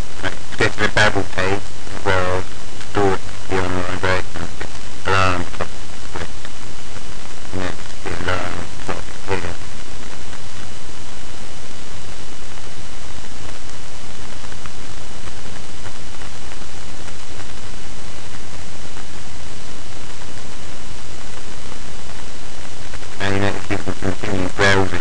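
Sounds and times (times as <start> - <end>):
low hum: 0.0 - 25.0
microphone hiss: 0.0 - 25.0.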